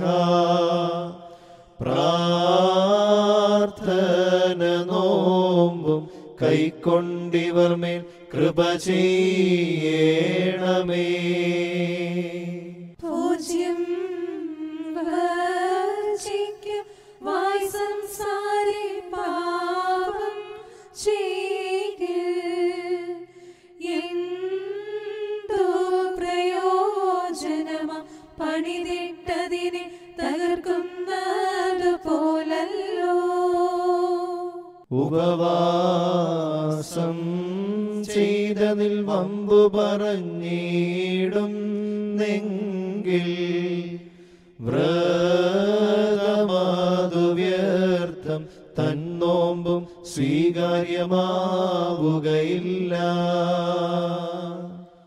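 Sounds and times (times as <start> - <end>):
liturgical chant singing: 0.0 - 55.0.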